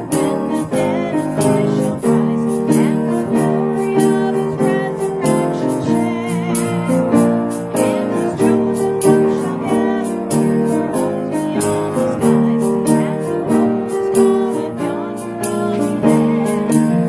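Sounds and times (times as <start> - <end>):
instrumental hymn music: 0.0 - 17.0.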